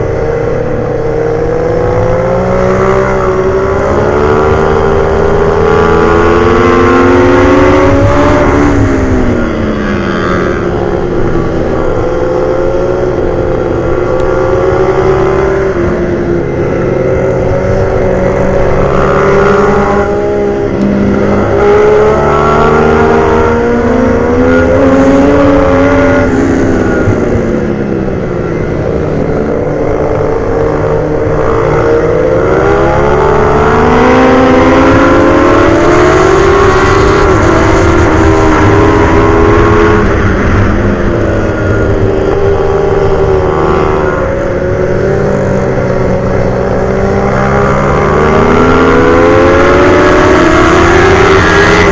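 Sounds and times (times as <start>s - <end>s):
motorbike engine revving: 0.0s - 51.9s.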